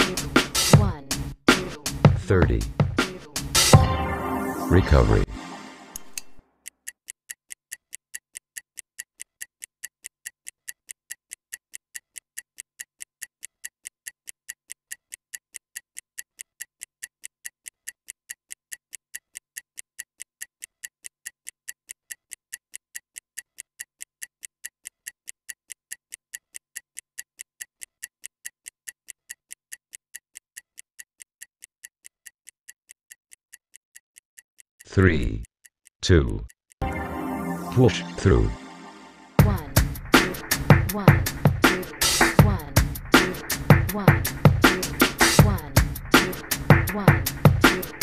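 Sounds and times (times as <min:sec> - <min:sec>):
stopwatch ticking: 0:06.0 - 0:36.8, 0:39.4 - 0:48.0.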